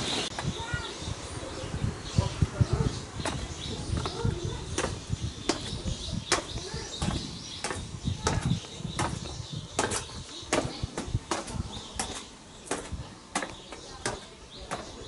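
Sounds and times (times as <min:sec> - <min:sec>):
footsteps on paved steps: 0:02.2 - 0:15.0.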